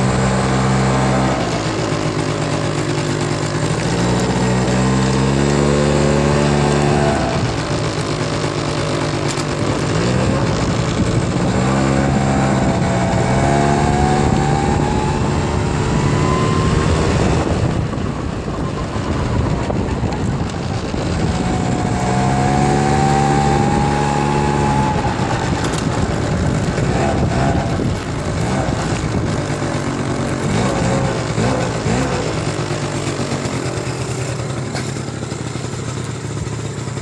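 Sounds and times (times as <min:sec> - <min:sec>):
moped engine accelerating: 0:00.0 - 0:37.0.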